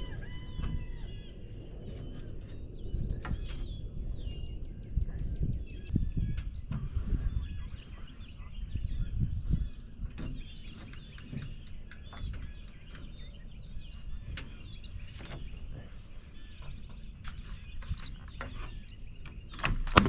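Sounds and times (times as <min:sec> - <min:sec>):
low rumble: 0:00.0 - 0:17.8
small birds chirping: 0:00.0 - 0:20.0.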